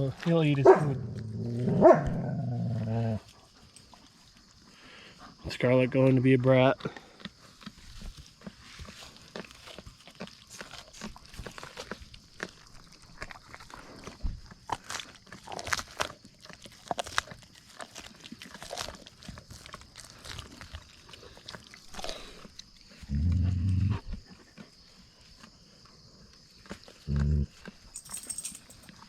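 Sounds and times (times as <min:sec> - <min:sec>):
dogs chewing and crunching bones: 0:00.0 - 0:29.0.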